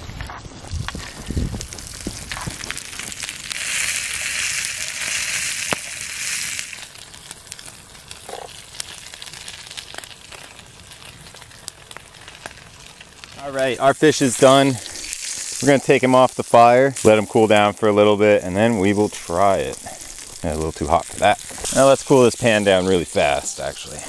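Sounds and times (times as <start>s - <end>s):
campfire crackling and popping: 0.0s - 24.0s
fish sizzling in a frying pan: 0.0s - 24.0s.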